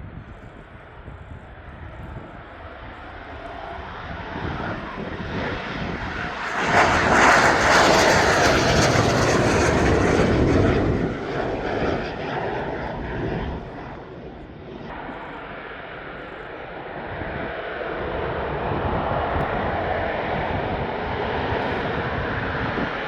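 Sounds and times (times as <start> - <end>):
aircraft engine passing: 1.0 - 23.0.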